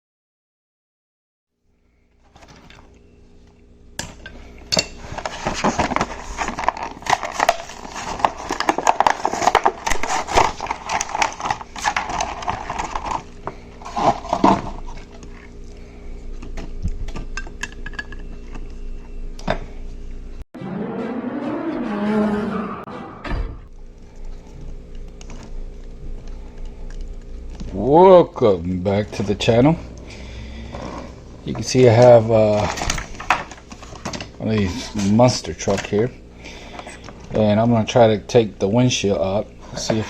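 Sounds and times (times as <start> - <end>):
faint steady hum: 1.6 - 20.4, 23.7 - 40.0.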